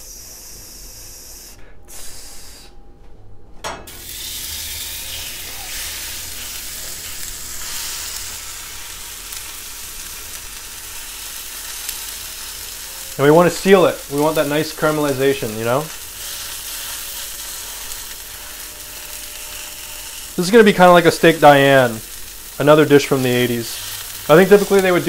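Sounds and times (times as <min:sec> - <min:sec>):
sizzling in a frying pan: 0:03.9 - 0:25.0.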